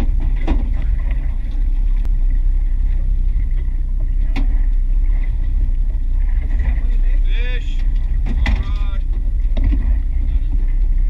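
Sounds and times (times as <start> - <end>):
sharp knocks in boat: 0.0 - 2.1, 2.9 - 11.0
boat motor rumble: 0.0 - 11.0
water against hull: 0.0 - 11.0.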